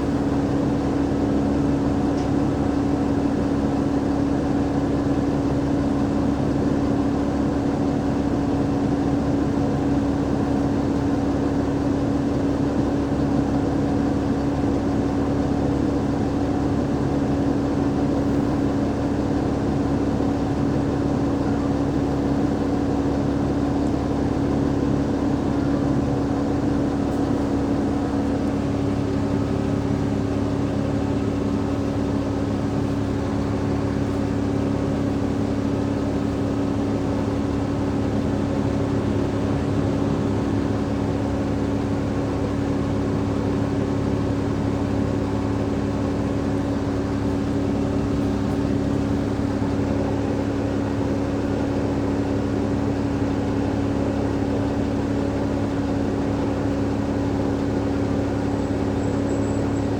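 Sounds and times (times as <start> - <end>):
diesel bus engine running: 0.0 - 59.9.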